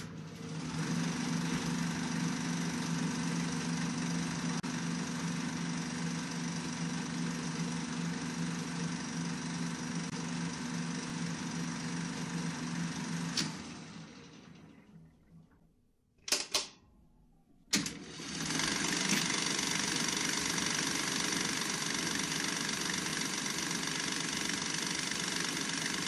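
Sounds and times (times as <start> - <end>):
film projector whirring: 0.0 - 15.1, 17.7 - 26.0.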